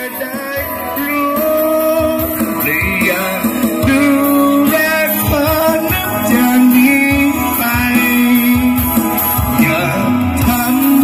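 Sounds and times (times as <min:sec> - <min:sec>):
song with singing and deep bass: 0:00.0 - 0:11.0.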